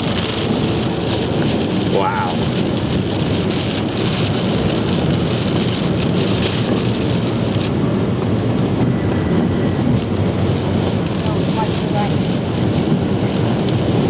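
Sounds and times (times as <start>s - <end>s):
heavy rain drumming on truck roof: 0.0s - 14.0s
road noise: 0.0s - 14.0s.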